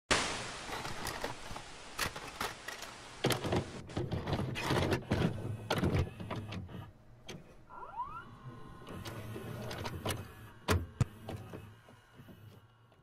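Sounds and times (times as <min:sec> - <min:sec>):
tape static hiss: 0:00.1 - 0:11.7.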